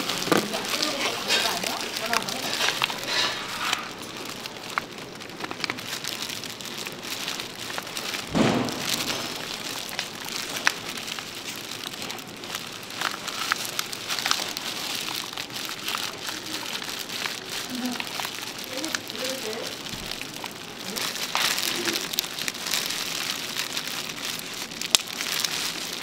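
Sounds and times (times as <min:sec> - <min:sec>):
crackling hiss: 0:00.0 - 0:26.0
plastic pouch crinkling: 0:00.0 - 0:26.0.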